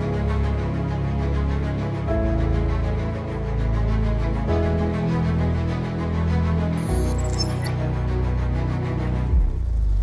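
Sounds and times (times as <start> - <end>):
soundtrack music with pulsing beat: 0.0 - 10.0.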